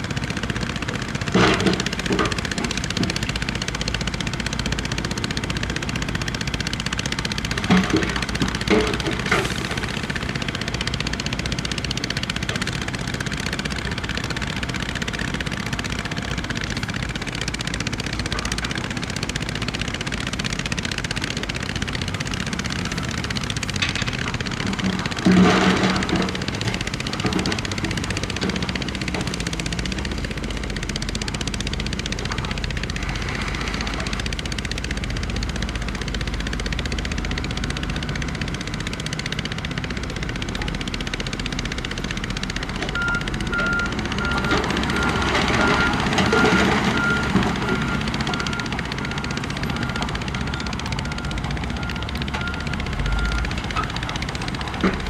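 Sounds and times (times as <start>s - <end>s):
diesel engine drone: 0.0s - 55.0s
machinery rattle and clatter: 0.0s - 55.0s.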